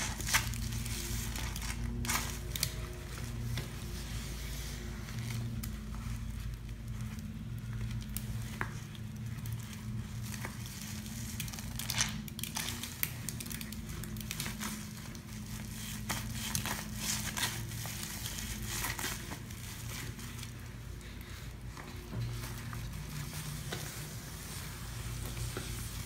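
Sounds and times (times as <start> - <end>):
low steady hum: 0.0 - 26.0
sponge squishing wet foam: 0.0 - 26.0.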